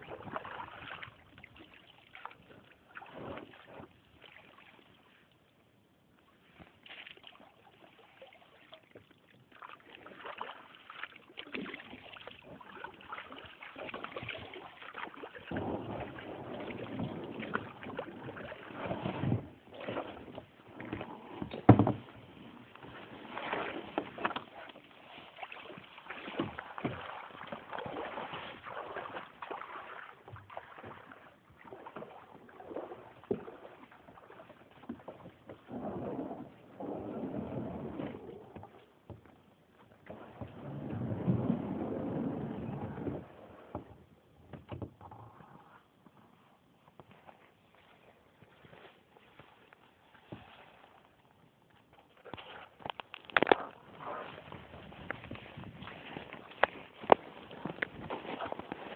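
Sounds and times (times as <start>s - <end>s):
water sloshing: 0.0s - 5.6s, 6.2s - 45.8s, 46.9s - 58.9s
paddle strokes in water: 0.0s - 58.9s.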